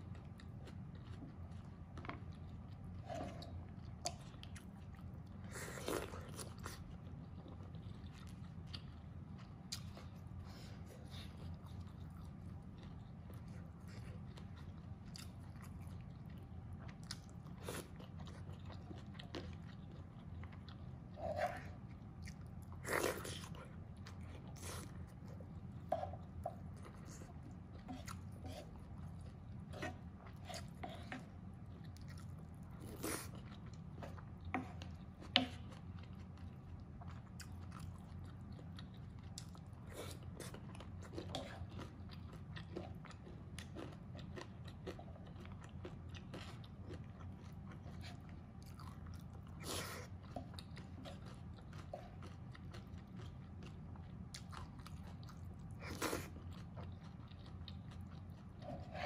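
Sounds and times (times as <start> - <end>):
chewing and biting food: 0.0 - 59.0
steady low hum: 0.0 - 59.0.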